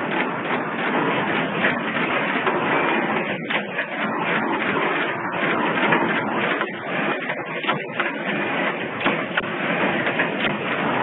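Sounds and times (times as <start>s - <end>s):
machine clatter and hum: 0.0s - 11.0s.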